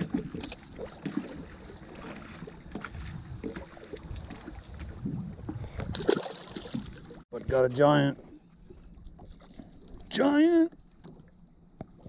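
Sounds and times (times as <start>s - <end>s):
low wind: 0.0s - 12.0s
water noise around boat: 0.0s - 12.0s.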